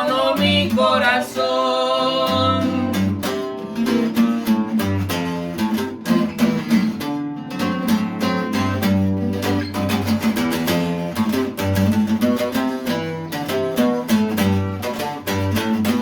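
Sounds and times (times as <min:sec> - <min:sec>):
strummed guitar chords and bass notes: 0:01.9 - 0:16.0.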